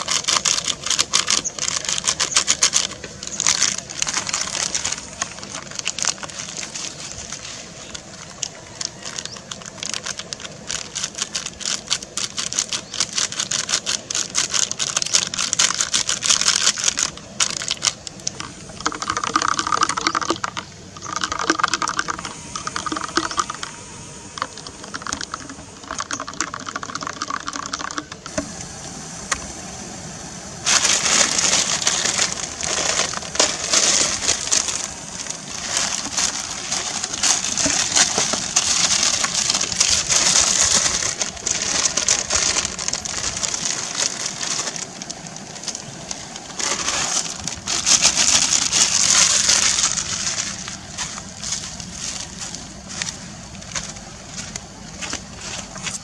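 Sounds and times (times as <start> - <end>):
plastic sachets crinkling: 0.0 - 28.6, 30.6 - 56.0
water boiling in a pot: 0.0 - 51.4.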